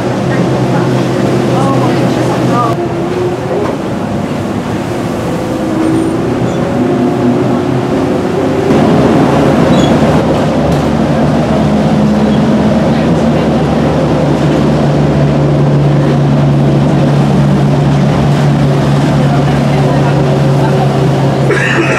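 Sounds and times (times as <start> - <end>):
bus engine hum: 0.0 - 21.9
road noise: 0.0 - 21.9.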